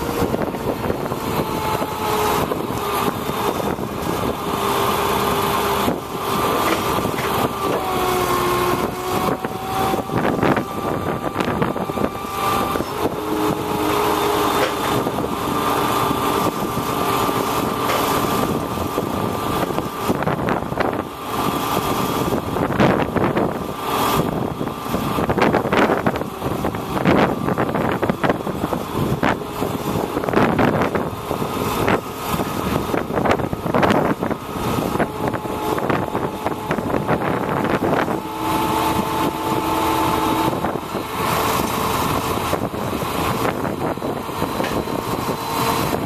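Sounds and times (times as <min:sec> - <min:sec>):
hydraulic whine: 0:00.0 - 0:46.0
truck machinery running: 0:00.0 - 0:46.0
wind buffeting microphone: 0:00.0 - 0:46.0.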